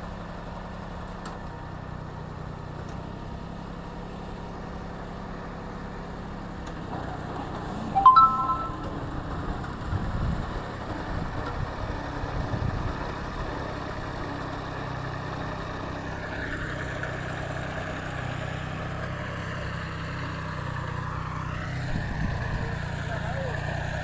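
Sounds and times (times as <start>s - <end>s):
small tractor engine running: 0.1s - 7.6s, 9.8s - 24.0s.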